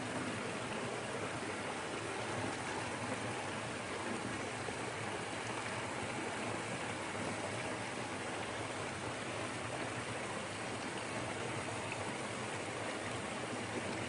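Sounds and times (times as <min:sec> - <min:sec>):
small waterfall pouring into pool: 0:00.0 - 0:14.0.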